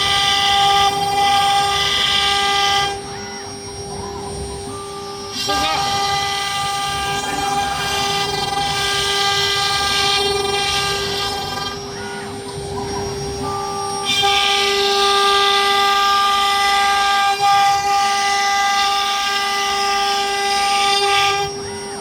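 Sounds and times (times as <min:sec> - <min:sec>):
router bit cutting wood: 0:00.0 - 0:22.0
router spindle whine: 0:00.0 - 0:22.0.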